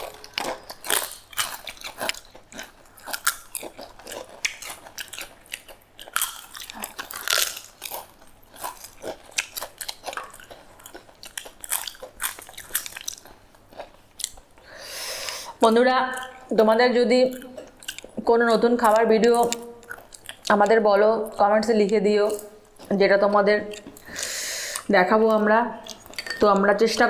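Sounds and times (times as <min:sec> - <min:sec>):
person chewing food: 0:00.0 - 0:16.5, 0:17.3 - 0:18.2, 0:18.9 - 0:20.7, 0:21.9 - 0:23.0, 0:23.6 - 0:24.9, 0:25.8 - 0:26.2.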